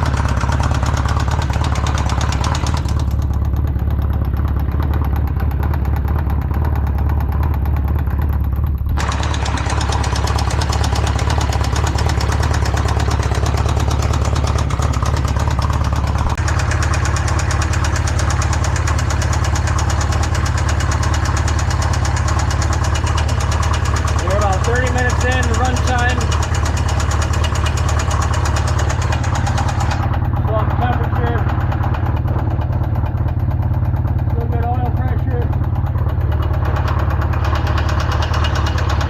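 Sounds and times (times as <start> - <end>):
engine running with fast beat: 0.0 - 39.0.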